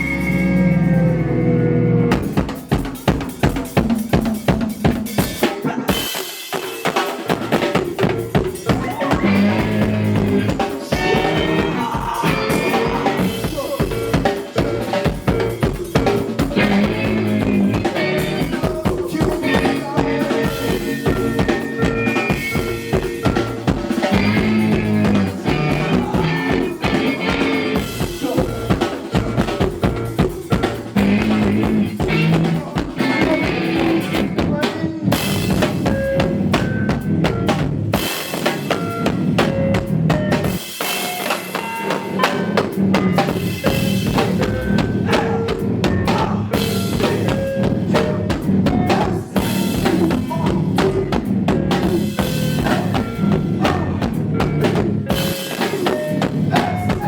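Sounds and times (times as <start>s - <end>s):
band playing: 0.0s - 57.0s
fast drum kit playing: 0.0s - 57.0s.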